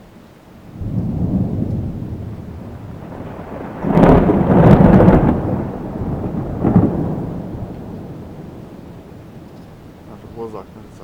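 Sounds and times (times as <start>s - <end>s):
thunder rumbling: 0.6s - 11.0s.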